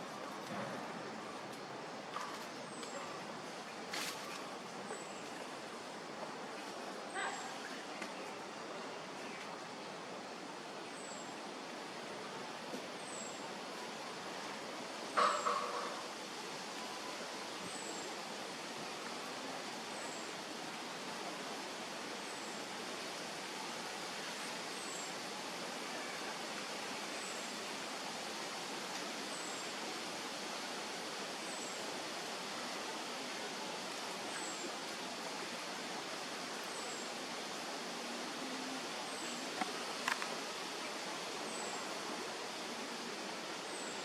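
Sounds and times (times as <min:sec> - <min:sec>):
outdoor background hiss: 0:00.0 - 0:44.0.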